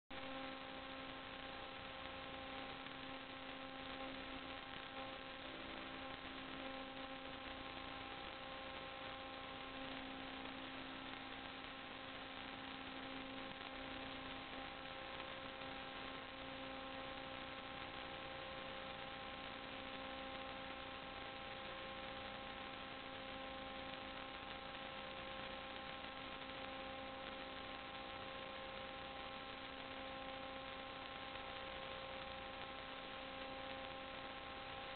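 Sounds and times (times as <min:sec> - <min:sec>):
constant hiss: 0:00.1 - 0:34.9
steady electrical hum: 0:00.1 - 0:34.9.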